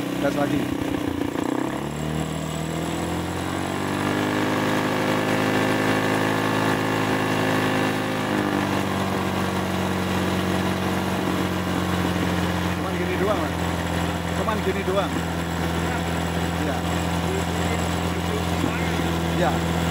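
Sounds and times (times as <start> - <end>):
scooter engine revving: 0.0 - 19.9.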